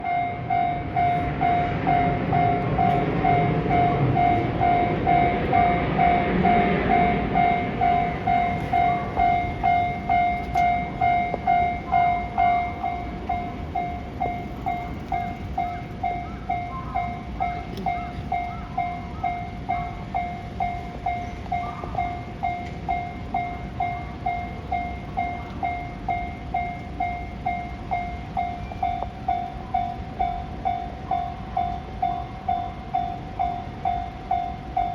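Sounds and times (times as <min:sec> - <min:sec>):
electric train rumbling past: 0:00.0 - 0:34.9
level crossing bell clanging: 0:00.0 - 0:34.9.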